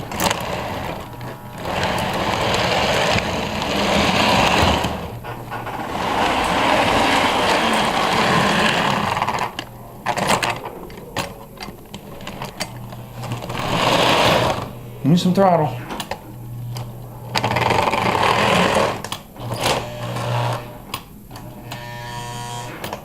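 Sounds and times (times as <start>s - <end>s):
model locomotives whirring: 0.0s - 14.9s, 15.9s - 23.0s.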